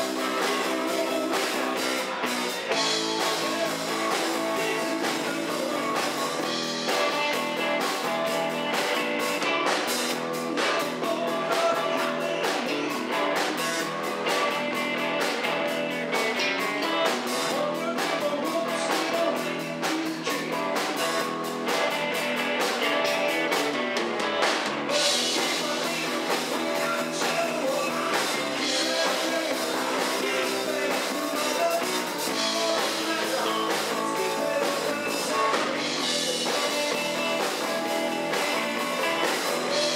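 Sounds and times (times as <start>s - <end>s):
man singing into a microphone: 0.0s - 7.2s, 10.4s - 14.8s, 15.7s - 21.2s, 24.9s - 39.9s
drums: 0.0s - 39.9s
electric guitar: 0.0s - 39.9s.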